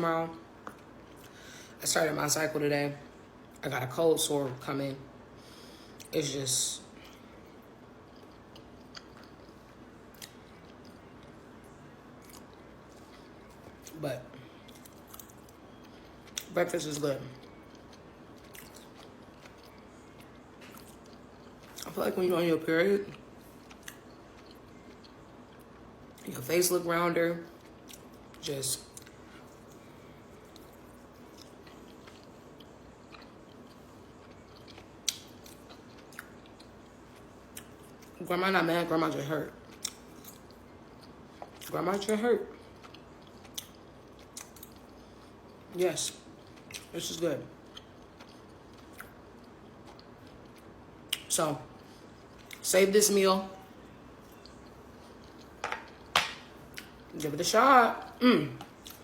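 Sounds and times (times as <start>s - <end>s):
faint chewing: 6.9s - 22.0s, 23.0s - 26.3s, 27.5s - 38.2s, 39.6s - 52.6s, 53.8s - 59.0s.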